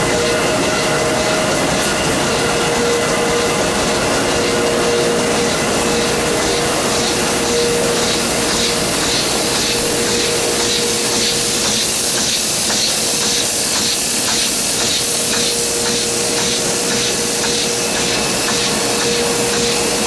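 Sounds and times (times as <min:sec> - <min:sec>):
printing press running: 0:00.0 - 0:20.0.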